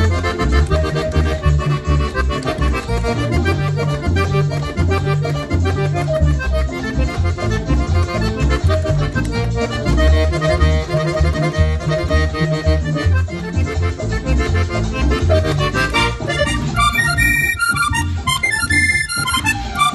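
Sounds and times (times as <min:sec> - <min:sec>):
button accordion melody: 0:00.0 - 0:19.9.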